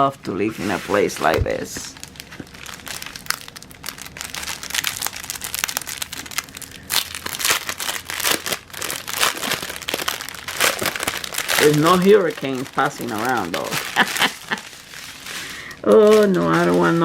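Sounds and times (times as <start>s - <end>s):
plastic packaging crinkling: 1.0s - 17.0s.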